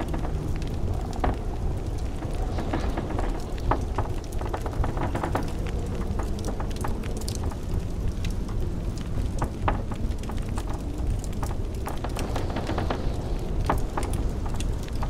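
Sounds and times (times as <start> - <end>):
blizzard wind rushing: 0.0 - 15.0
wood fire crackling and popping: 0.0 - 15.0.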